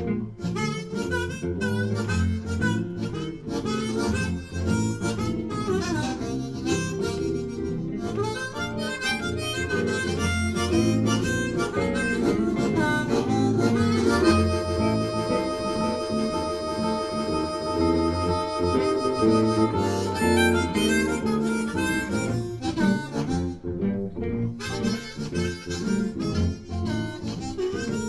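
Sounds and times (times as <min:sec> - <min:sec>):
bass guitar: 0:00.0 - 0:28.0
blues harmonica solo: 0:00.0 - 0:28.0
guitar backing: 0:00.0 - 0:28.0.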